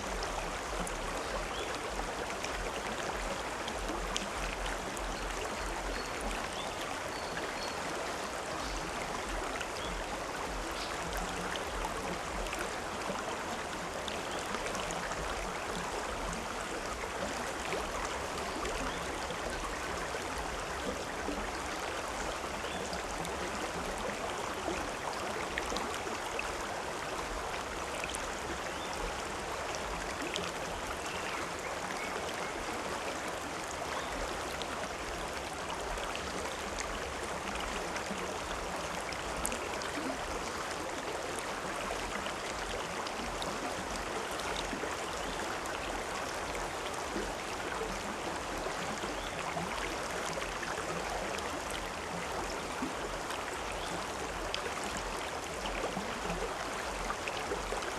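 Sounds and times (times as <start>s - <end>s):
stream babbling over rocks: 0.0s - 57.9s.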